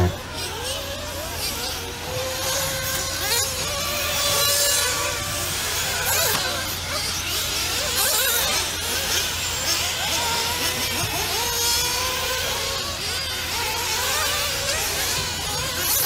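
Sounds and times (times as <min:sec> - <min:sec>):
rc car engines revving: 0:00.0 - 0:16.0.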